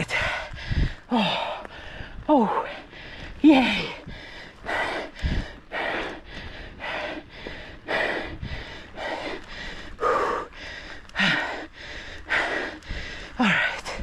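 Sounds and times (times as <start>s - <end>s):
man panting hard: 0.0s - 14.0s.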